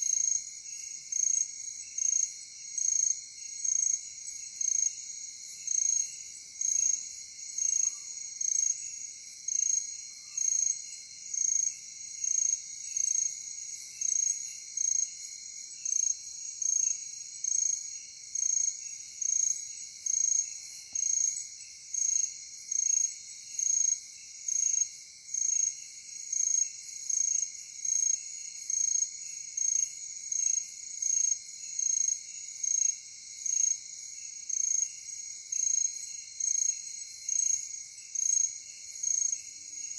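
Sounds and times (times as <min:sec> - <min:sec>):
night insects chirping: 0:00.0 - 0:39.9.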